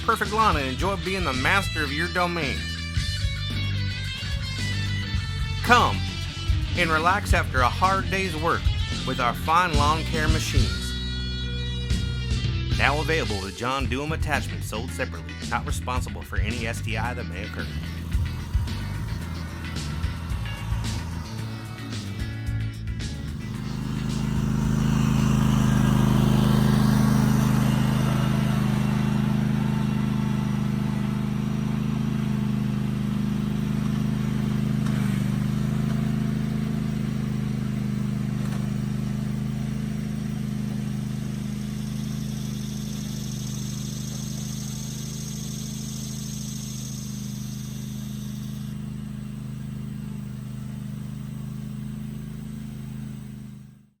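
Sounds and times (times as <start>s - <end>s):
lawn mower engine running: 0.0s - 53.8s.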